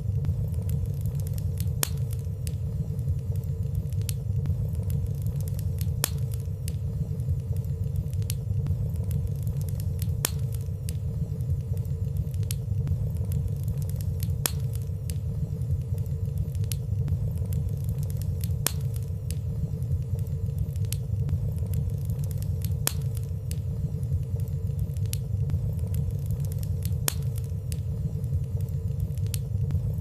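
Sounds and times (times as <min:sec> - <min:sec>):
fire crackling and snapping: 0:00.0 - 0:30.0
fire flames rumbling: 0:00.0 - 0:30.0.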